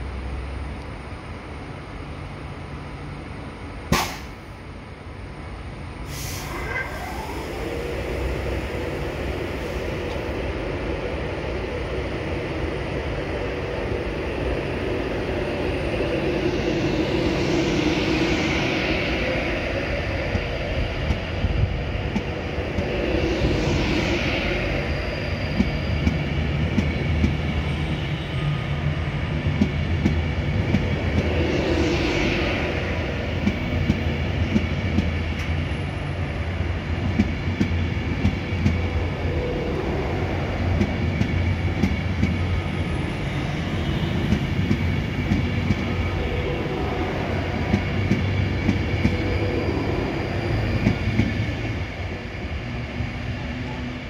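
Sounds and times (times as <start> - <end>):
electric train hum: 0.0 - 54.0.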